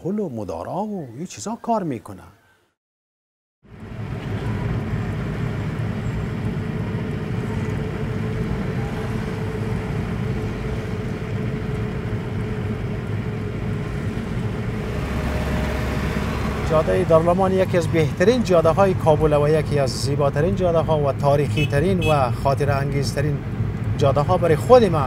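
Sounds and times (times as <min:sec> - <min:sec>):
car engine and road noise: 0:03.6 - 0:25.0.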